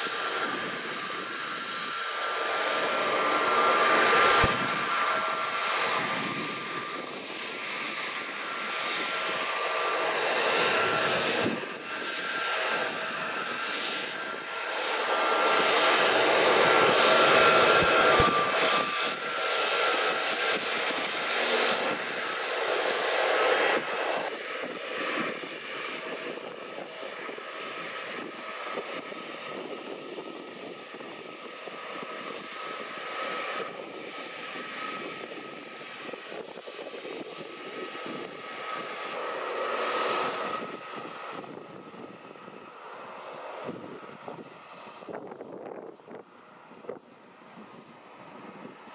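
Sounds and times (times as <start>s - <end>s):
jet engine whine: 0.0s - 48.9s.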